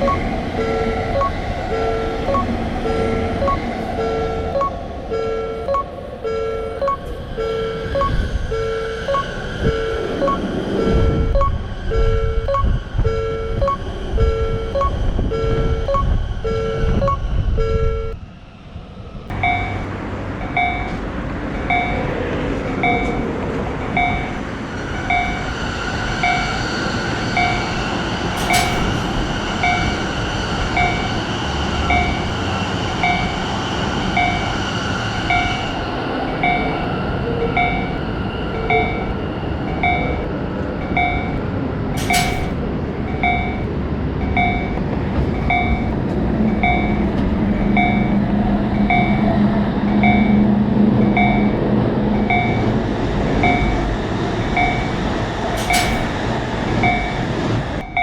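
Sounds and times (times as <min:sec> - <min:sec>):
level crossing alarm beeping: 0:00.0 - 0:18.2, 0:19.3 - 0:51.6, 0:52.2 - 0:58.0
passing train rumble: 0:00.0 - 0:58.0.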